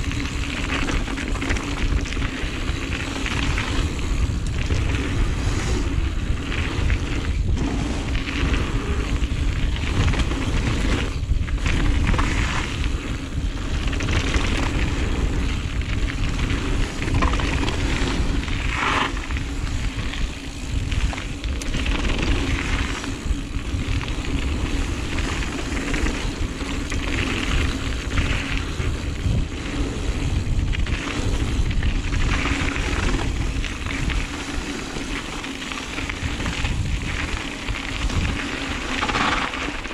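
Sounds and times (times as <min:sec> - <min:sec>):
tyres rolling over dirt trail: 0:00.0 - 0:39.9
wind rumbling on microphone: 0:00.0 - 0:39.9.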